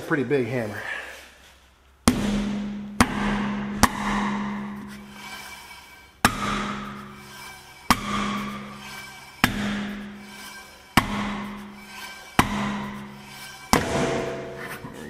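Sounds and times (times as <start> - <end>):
heavy hammer blows ringing on wheel: 2.1 - 14.6.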